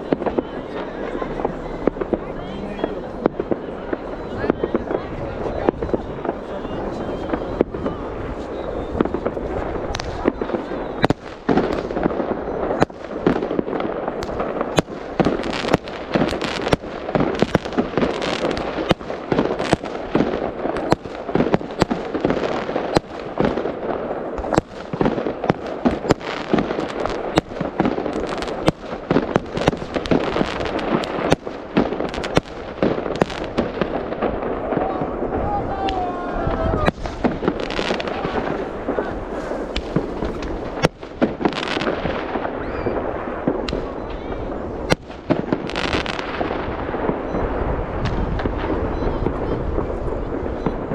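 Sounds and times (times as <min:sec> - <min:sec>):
fireworks bangs and cracks: 0:00.0 - 0:50.9
fireworks crackle: 0:00.0 - 0:50.9.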